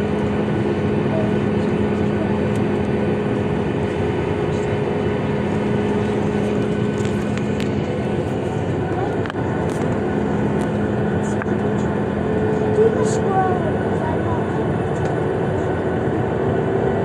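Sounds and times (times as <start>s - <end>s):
airplane cabin engine rush: 0.0s - 17.0s
constant low hum: 0.0s - 17.0s.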